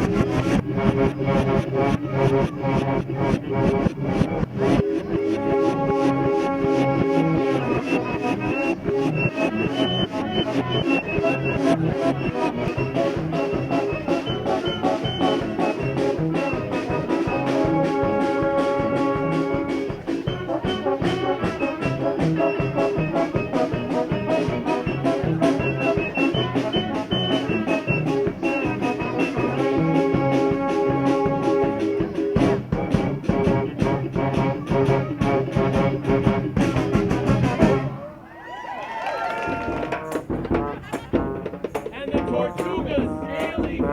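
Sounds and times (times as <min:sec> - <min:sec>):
steady drumbeat: 0:00.0 - 0:37.9, 0:39.3 - 0:43.9
brass band playing: 0:00.0 - 0:38.1, 0:39.4 - 0:43.9.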